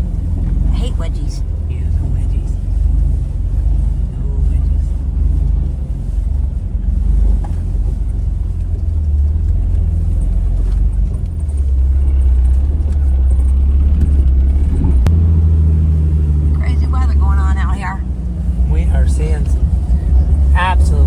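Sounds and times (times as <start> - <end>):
engine rumbling at low revs: 0.0 - 21.0.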